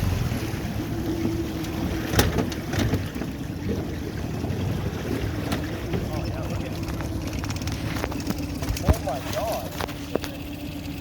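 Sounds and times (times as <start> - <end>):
boat motor droning: 0.0 - 11.0.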